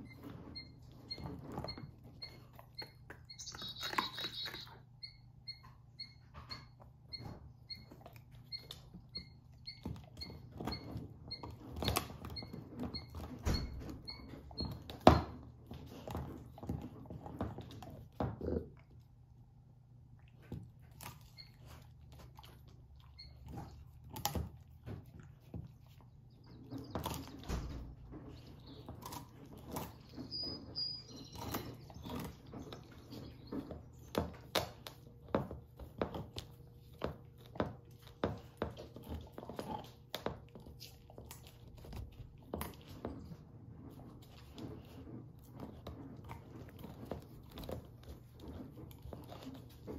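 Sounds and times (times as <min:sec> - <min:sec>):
puppy chewing a bone: 0:00.0 - 0:49.9.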